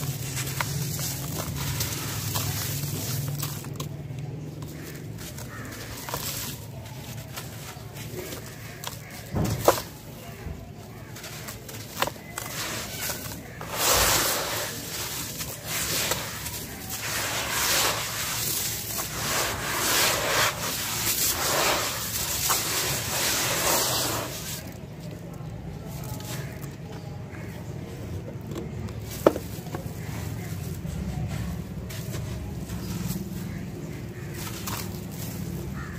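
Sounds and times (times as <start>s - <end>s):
hands kneading wet gritty sand: 0.0s - 35.9s.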